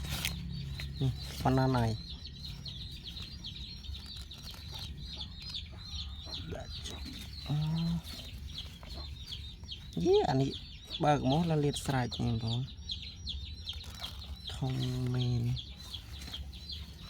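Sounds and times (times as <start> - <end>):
chickens peeping: 0.0 - 17.0.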